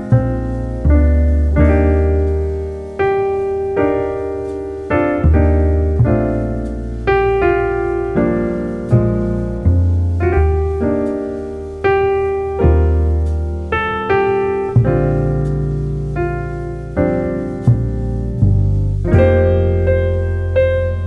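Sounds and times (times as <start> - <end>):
piano chords with bass notes: 0.0 - 21.0.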